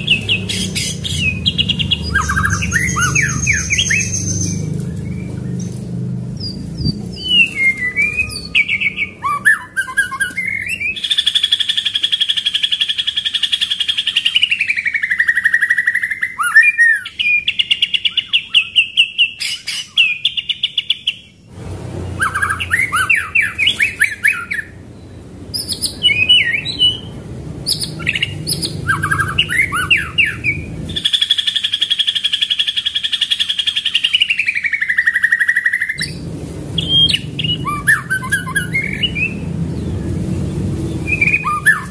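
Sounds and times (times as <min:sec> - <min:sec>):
songbird singing varied song: 0:00.0 - 0:21.5, 0:22.1 - 0:36.2, 0:36.8 - 0:41.9.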